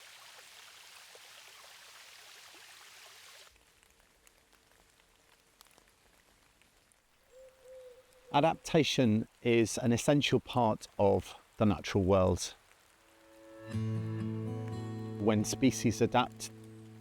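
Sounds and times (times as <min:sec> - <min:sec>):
rain patter: 0:00.0 - 0:17.0.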